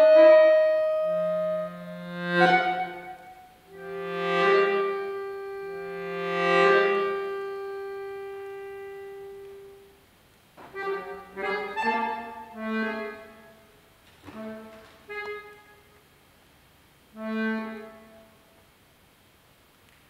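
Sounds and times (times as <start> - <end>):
accordion chords: 0.0 - 16.3, 17.0 - 18.6.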